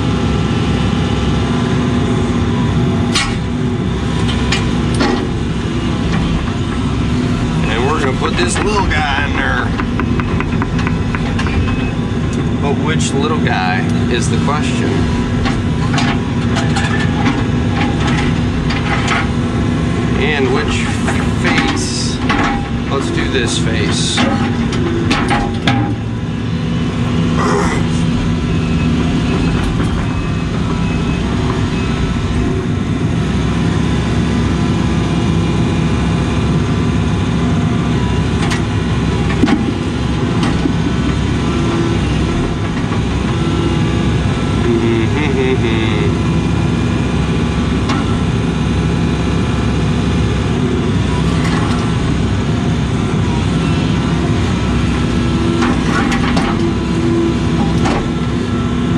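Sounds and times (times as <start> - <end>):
diesel engine running: 0.0 - 58.9
hydraulics working: 0.0 - 58.9.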